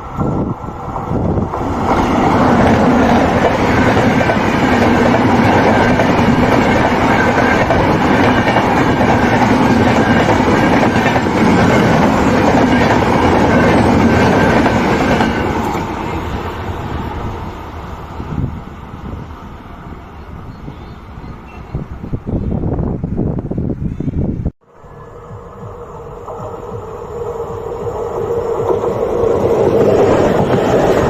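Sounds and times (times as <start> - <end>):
train passing rumble: 0.0 - 23.8, 24.4 - 31.0.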